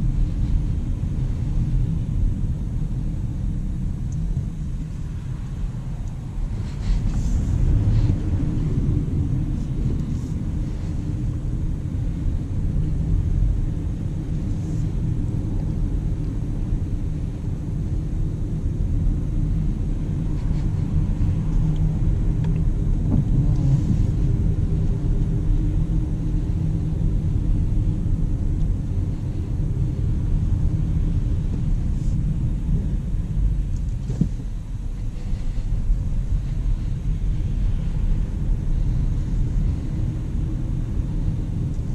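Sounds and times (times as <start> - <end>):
road and tyre noise: 0.0 - 41.9.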